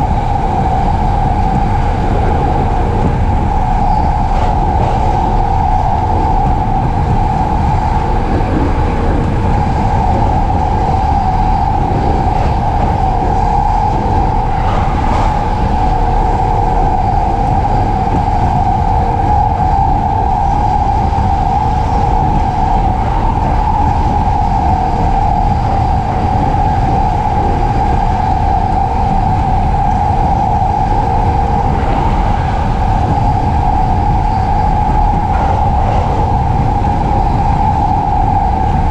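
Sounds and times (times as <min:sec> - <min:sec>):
low rumble: 0:00.0 - 0:38.9
train wheels on rails: 0:00.0 - 0:38.9.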